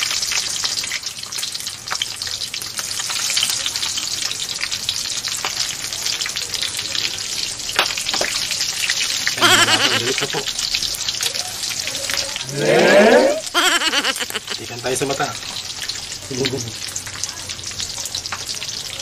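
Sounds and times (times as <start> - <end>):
pork frying in oil: 0.0 - 12.5, 13.6 - 19.0.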